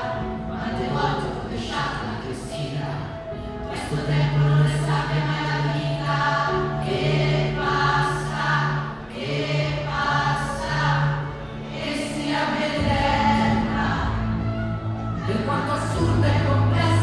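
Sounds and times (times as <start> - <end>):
choir of women and girls singing: 0.0 - 3.0, 3.6 - 17.0
low musical accompaniment: 0.0 - 17.0.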